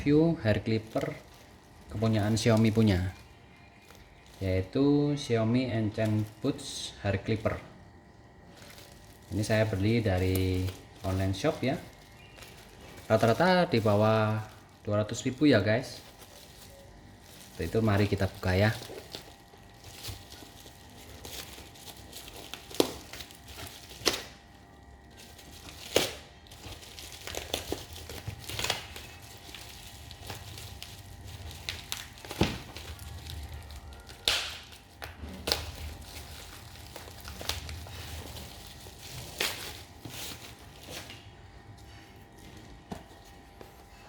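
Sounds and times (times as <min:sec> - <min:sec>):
plastic wrapping crinkling: 0:00.0 - 0:44.0.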